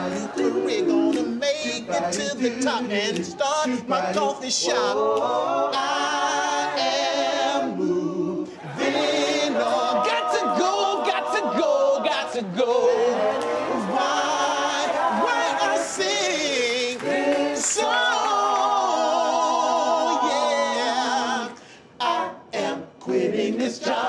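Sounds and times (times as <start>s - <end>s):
male a cappella group singing: 0.0s - 24.0s.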